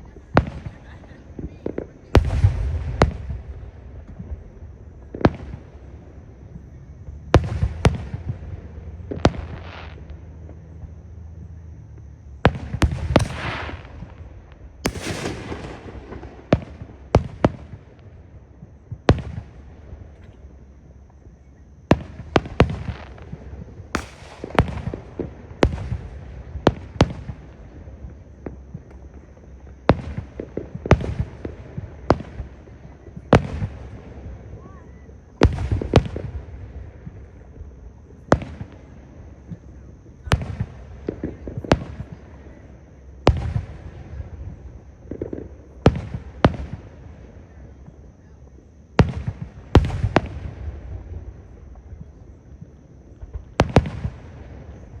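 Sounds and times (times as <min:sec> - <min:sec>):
fireworks bursting: 0:00.0 - 0:20.4, 0:21.9 - 0:55.0.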